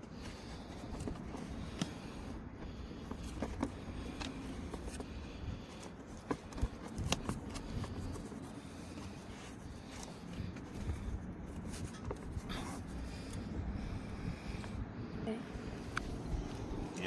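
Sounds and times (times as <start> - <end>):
low steady rumble: 0.1 - 17.0.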